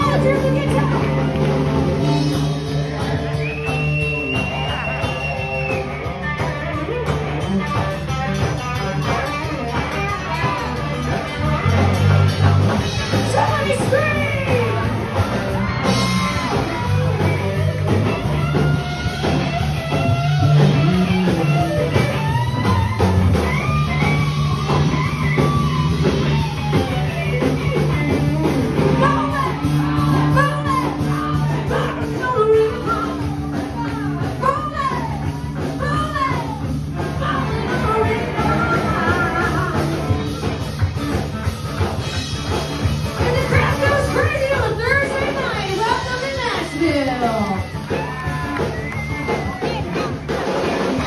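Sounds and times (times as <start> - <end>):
bass notes: 0.0 - 51.0
electric guitar: 0.0 - 51.0.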